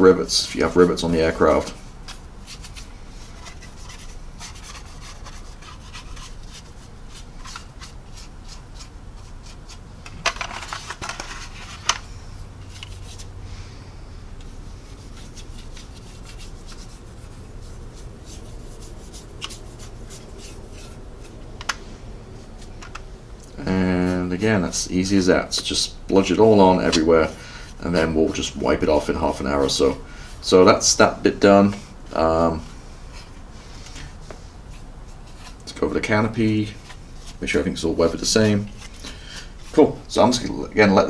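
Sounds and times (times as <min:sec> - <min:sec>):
paintbrush strokes: 0:00.2 - 0:09.9, 0:12.6 - 0:13.4, 0:14.4 - 0:22.8, 0:23.6 - 0:31.0, 0:32.9 - 0:40.5.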